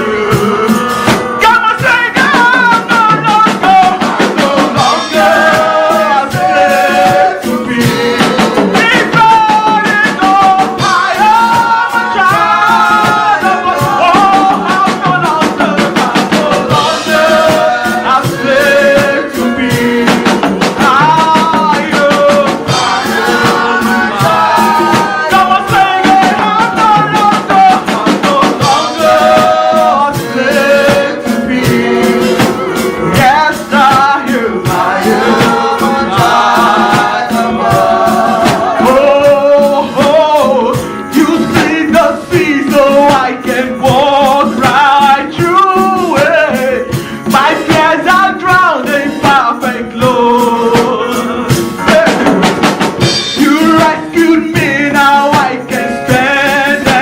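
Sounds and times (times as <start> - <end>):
band playing worship song: 0.0 - 57.0
singers: 0.0 - 57.0.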